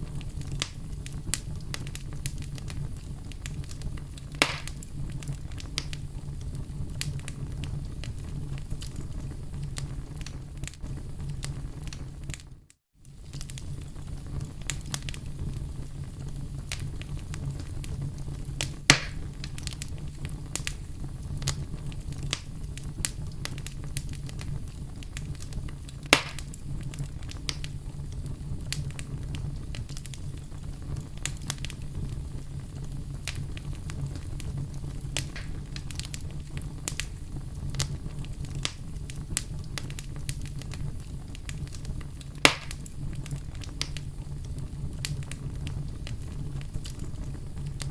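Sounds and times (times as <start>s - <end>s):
fire popping: 0.0s - 47.9s
wood fire crackling: 0.0s - 47.9s.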